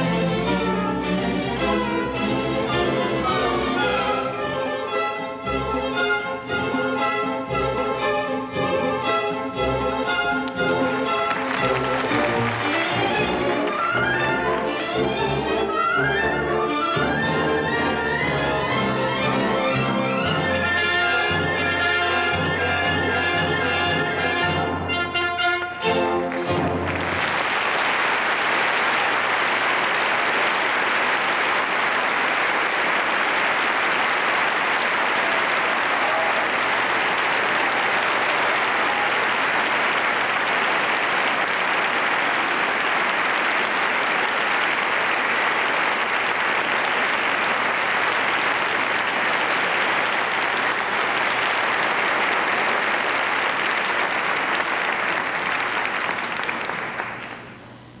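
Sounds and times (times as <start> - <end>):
audience applauding: 9.0 - 24.7, 25.5 - 57.6.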